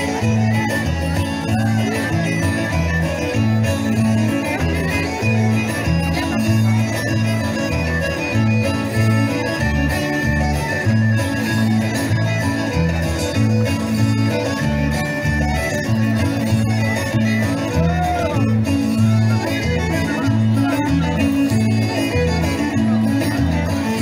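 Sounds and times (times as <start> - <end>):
instrumental folk dance music: 0.0 - 24.0.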